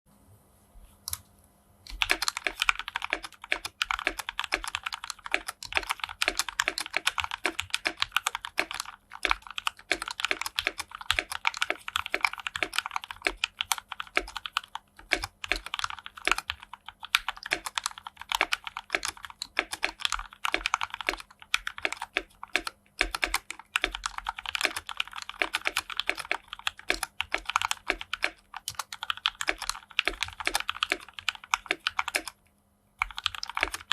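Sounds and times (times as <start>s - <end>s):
typing on mechanical keyboard: 1.9s - 32.4s, 33.0s - 33.9s.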